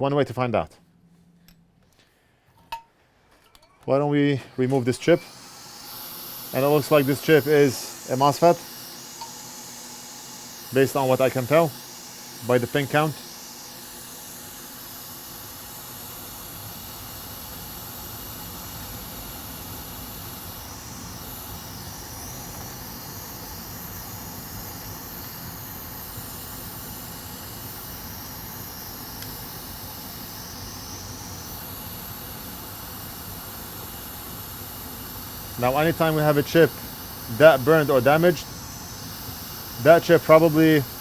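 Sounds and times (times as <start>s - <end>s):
hot air blower hissing: 4.1s - 41.0s.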